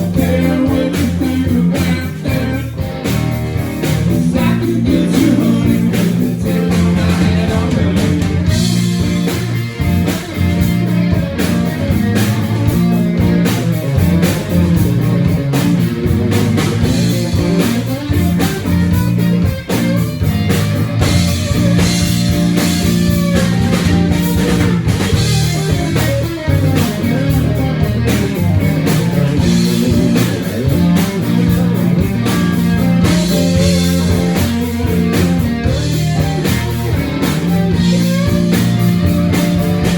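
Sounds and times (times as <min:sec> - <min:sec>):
blues-rock band playing: 0:00.0 - 0:39.9
electric guitar: 0:00.0 - 0:39.9.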